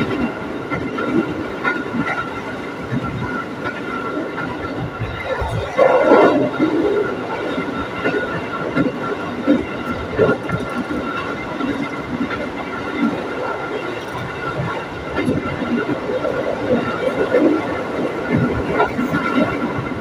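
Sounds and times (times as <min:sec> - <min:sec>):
train knocks: 0:00.0 - 0:20.0
train wheels rumbling on rail: 0:00.0 - 0:20.0.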